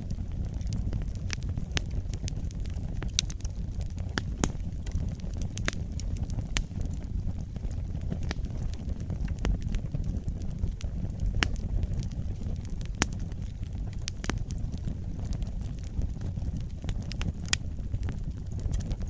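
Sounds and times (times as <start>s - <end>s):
fire crackling and popping: 0.0s - 19.0s
fire rumbling in fireplace: 0.0s - 19.0s.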